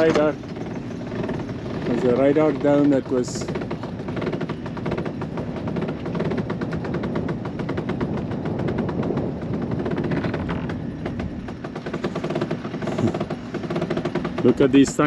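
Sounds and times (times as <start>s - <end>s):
sail cloth fluttering: 0.0s - 14.6s
wind rumble on microphone: 0.0s - 15.0s.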